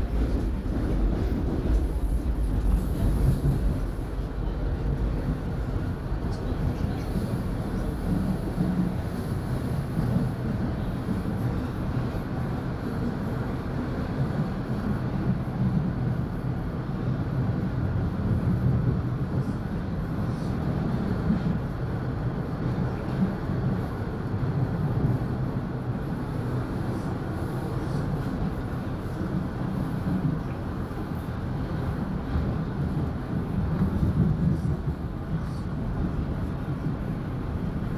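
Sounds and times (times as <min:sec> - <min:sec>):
subway train rumbling: 0:00.0 - 0:37.9.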